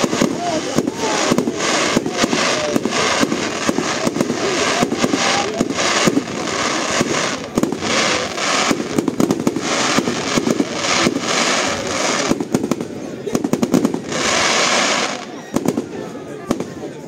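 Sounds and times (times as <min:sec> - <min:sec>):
firework shells bursting: 0:00.0 - 0:15.9
fireworks crackling: 0:00.0 - 0:17.0.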